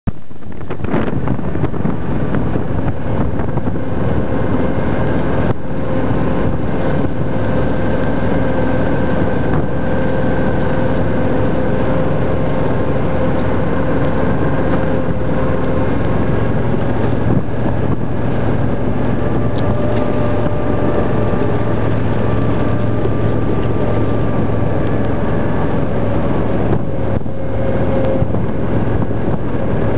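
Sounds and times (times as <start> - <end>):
engine drone: 0.0 - 29.9
wind on microphone: 0.1 - 29.9.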